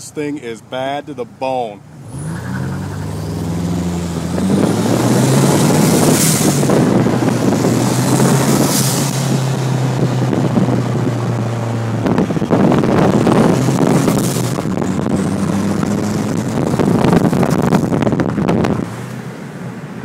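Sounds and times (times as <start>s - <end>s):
cars at highway speed: 0.0s - 20.0s
wind and road rush: 0.0s - 20.0s.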